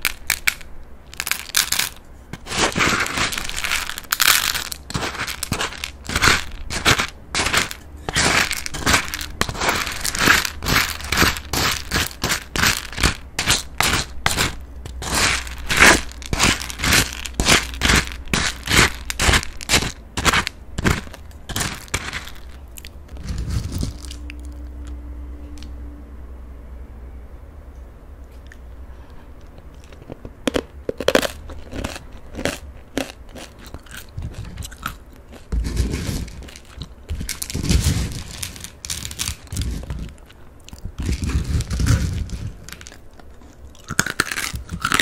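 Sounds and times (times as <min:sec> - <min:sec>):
crunchy snack being chewed: 0:00.0 - 0:25.0, 0:29.5 - 0:45.0.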